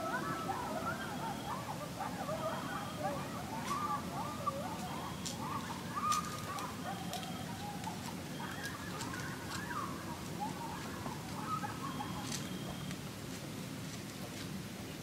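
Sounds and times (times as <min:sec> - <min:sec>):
distant birds calling: 0:00.0 - 0:13.2.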